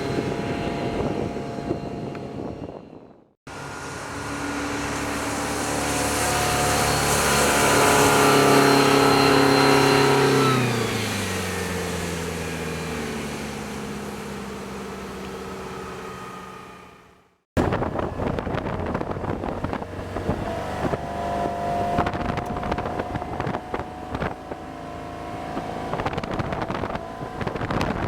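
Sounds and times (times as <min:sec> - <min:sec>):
motorboat passing at speed: 0:00.0 - 0:28.0.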